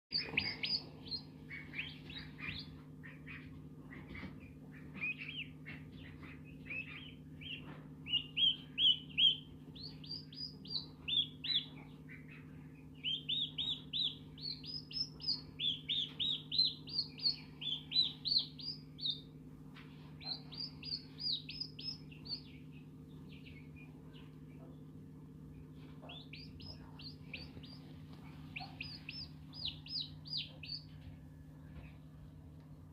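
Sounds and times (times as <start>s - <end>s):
bird chirping: 0.1s - 32.1s
steady low hum: 0.1s - 32.9s.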